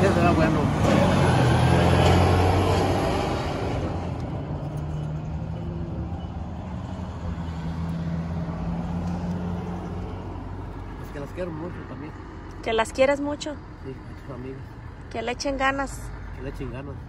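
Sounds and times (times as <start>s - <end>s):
truck driving past: 0.0s - 17.0s.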